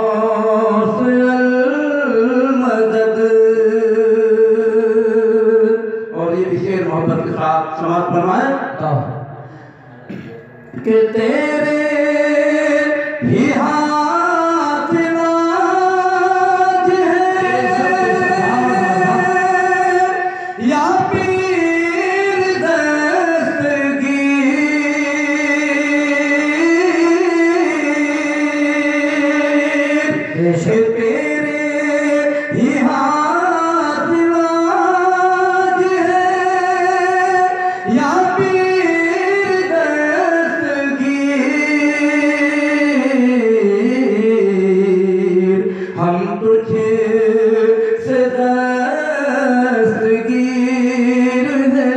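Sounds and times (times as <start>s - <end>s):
man singing devotional song: 0.0s - 51.9s.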